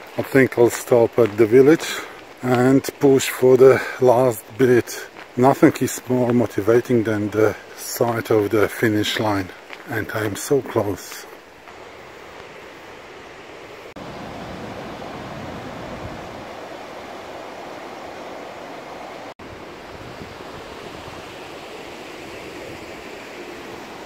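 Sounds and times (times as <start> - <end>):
river rushing over rapids: 1.3 - 24.0.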